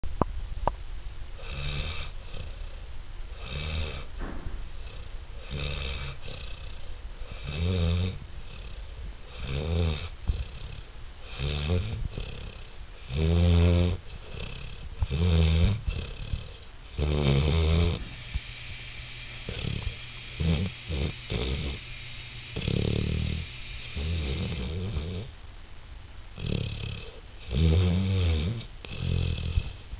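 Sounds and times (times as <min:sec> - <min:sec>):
puppy snoring: 0:01.4 - 0:25.3, 0:26.3 - 0:29.9.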